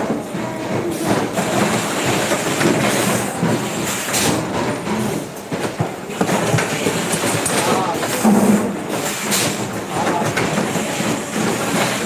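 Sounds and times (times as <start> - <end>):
factory machines running: 0.0 - 12.0.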